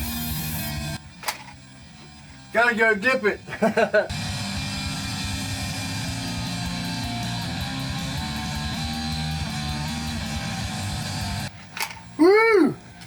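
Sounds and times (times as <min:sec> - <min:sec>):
rock music with electric guitar: 0:00.0 - 0:02.5, 0:03.4 - 0:12.2.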